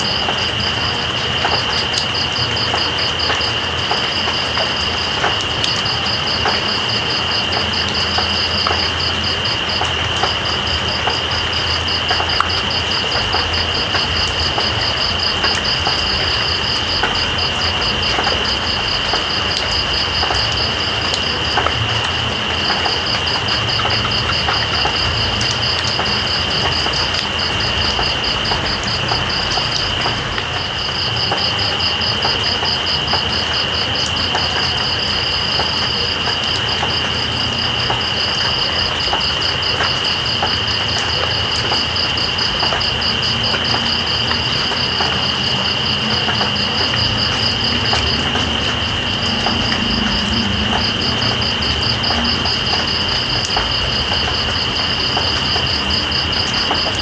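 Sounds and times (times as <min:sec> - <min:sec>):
insect continuous high buzz: 0:00.0 - 0:57.0
rain hiss: 0:00.0 - 0:57.0.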